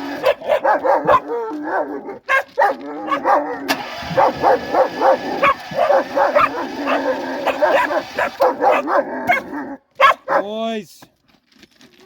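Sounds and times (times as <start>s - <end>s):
dogs barking and yipping: 0.0s - 10.5s
dogs whining: 0.1s - 10.2s.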